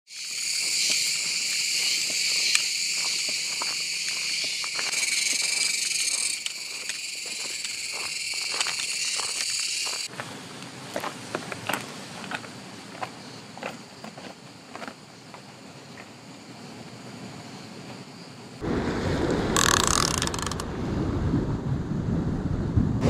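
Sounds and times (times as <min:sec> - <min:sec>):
insect chorus buzzing: 0:00.1 - 0:18.8, 0:19.4 - 0:20.7.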